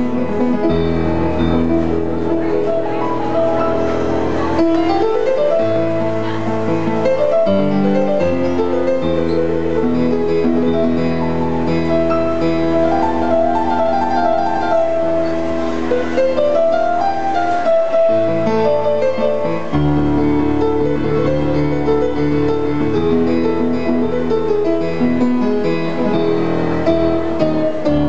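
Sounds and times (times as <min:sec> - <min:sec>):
electronic keyboard chords and melody: 0:00.0 - 0:28.0.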